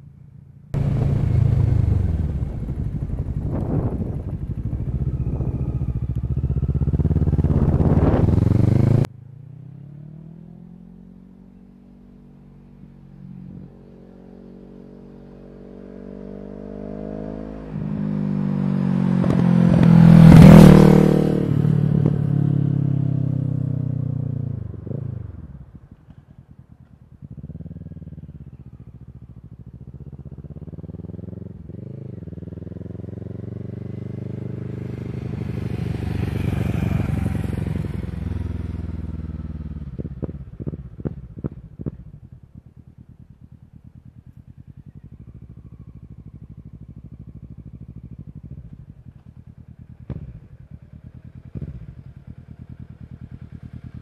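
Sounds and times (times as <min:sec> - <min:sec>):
motorcycle engine accelerating past: 0:00.8 - 0:54.0.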